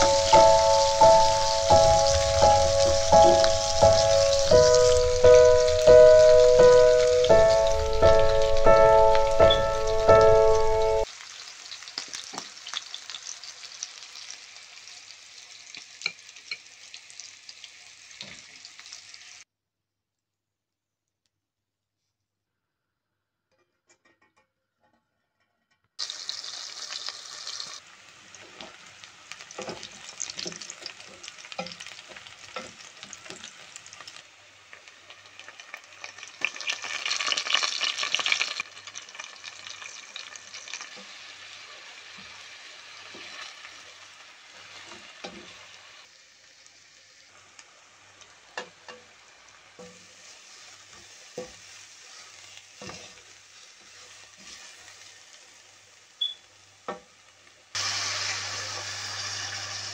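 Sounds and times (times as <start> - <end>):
hot oil sizzling: 0.0 - 19.5, 26.0 - 59.9.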